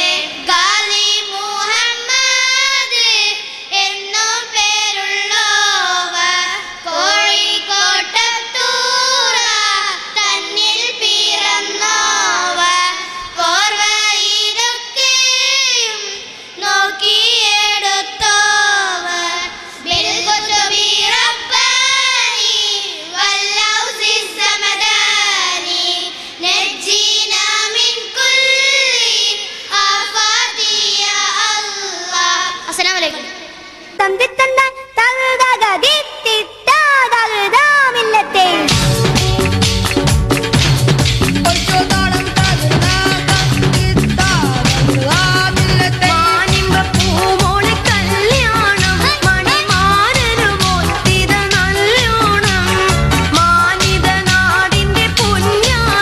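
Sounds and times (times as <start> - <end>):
girls singing into microphones: 0.0 - 38.9, 41.4 - 56.0.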